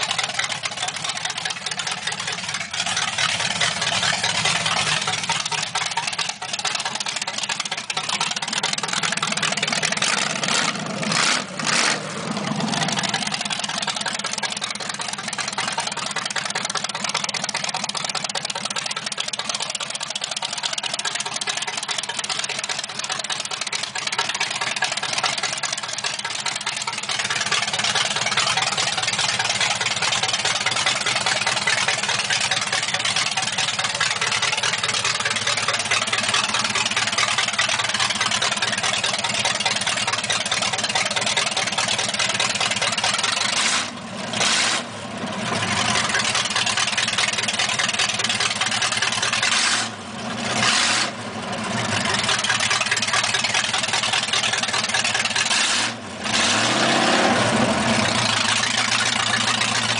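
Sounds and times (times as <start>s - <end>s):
loud engine idling through headers: 0.0s - 59.9s.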